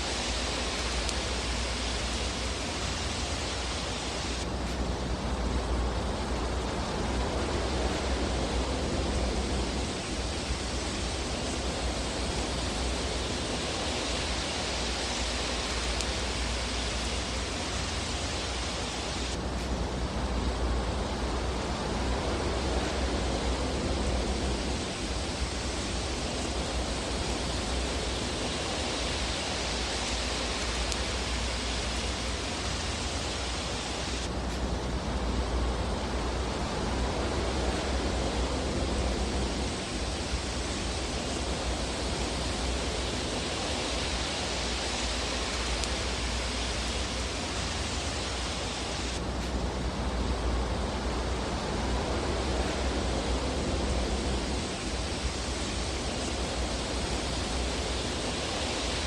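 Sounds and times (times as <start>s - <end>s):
fireplace fire hiss: 0.0s - 59.0s.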